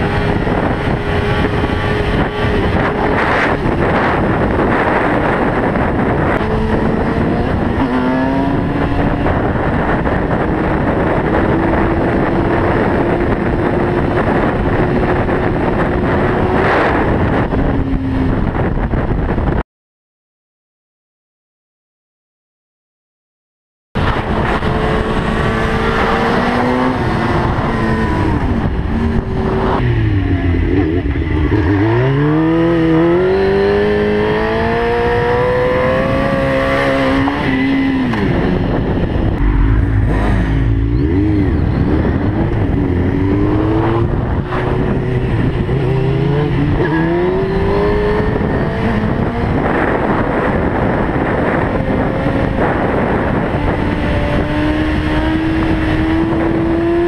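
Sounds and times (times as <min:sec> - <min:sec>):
wind noise: 0:00.0 - 0:19.6, 0:24.0 - 0:57.0.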